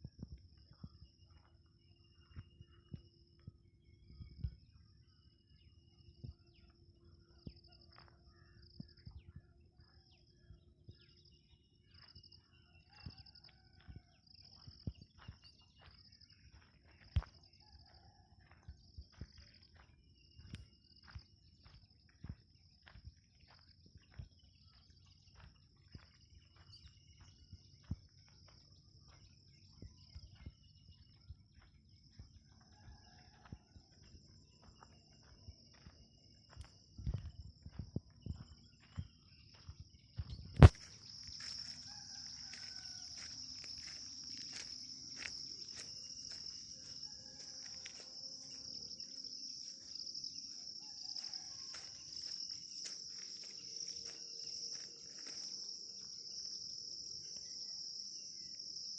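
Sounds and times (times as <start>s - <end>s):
insects chirring: 10.5s - 58.9s.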